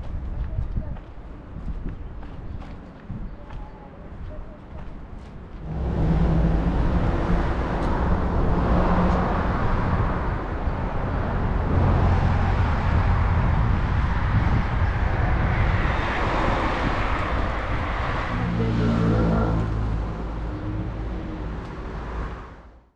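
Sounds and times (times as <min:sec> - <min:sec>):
low outdoor rumble: 0:00.0 - 0:22.7.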